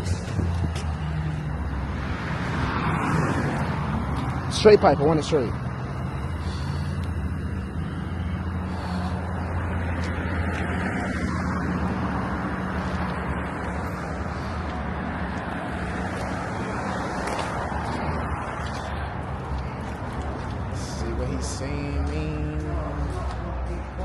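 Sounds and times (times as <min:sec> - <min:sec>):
street traffic noise: 0:00.0 - 0:24.0
vehicle engine humming: 0:00.0 - 0:24.0.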